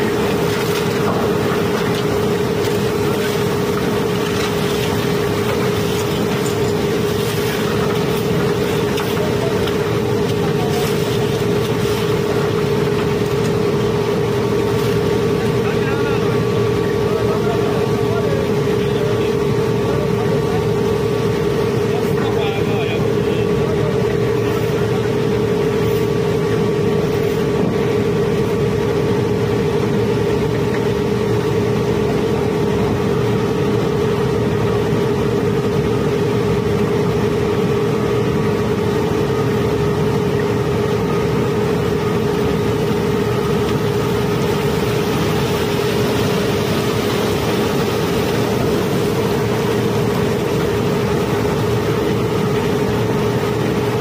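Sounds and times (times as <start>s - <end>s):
conveyor machine drone: 0.0s - 54.0s.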